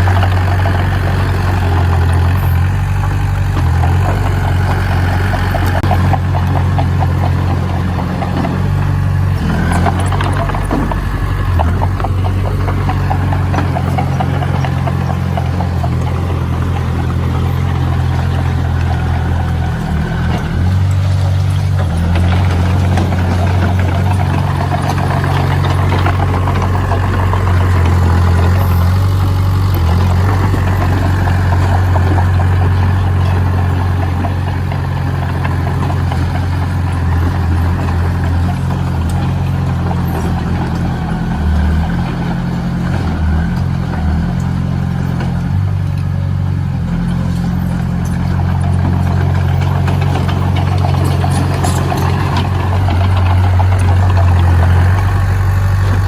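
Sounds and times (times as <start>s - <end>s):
heavy machine engine droning: 0.0s - 56.0s.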